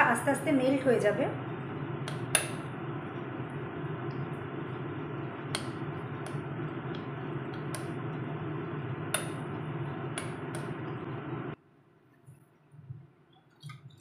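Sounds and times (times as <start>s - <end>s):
stove hissing: 0.0s - 11.6s.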